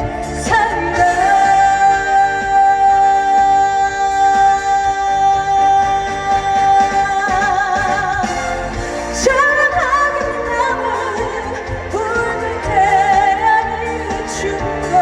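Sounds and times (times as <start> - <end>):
instrumental backing: 0.0 - 15.0
woman singing: 0.0 - 15.0.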